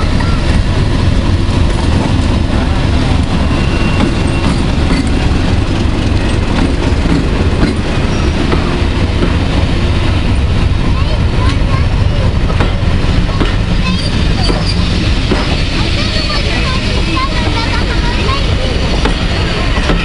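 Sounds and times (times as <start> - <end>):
train rumbling and clattering: 0.0 - 20.0.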